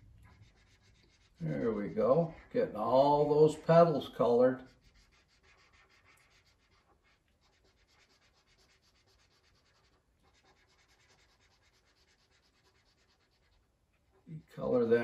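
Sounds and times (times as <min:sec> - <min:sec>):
marker scratching on paper: 0:00.2 - 0:14.2.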